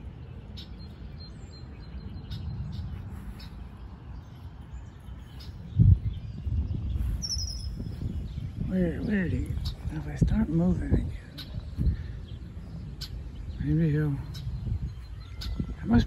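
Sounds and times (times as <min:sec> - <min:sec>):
birds chirping: 0:00.0 - 0:16.0
low microphone rumble: 0:00.0 - 0:16.0.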